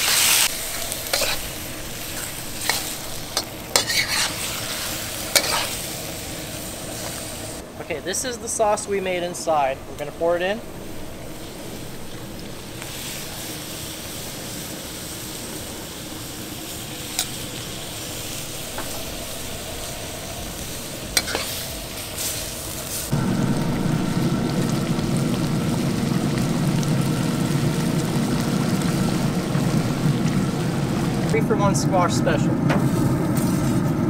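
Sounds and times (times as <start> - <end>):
shrimp sizzling in a wok: 0.0 - 34.0
steady low rumble: 0.4 - 34.0.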